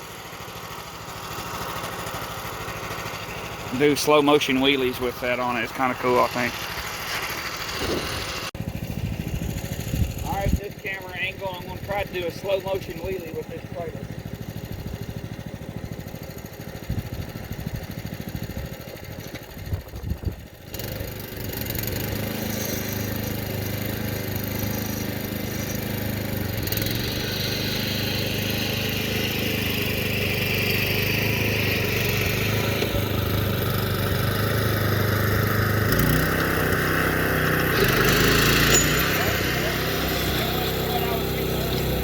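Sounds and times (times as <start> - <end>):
engine knocks and rattles: 0.0 - 42.0
small tractor engine running: 0.0 - 42.0.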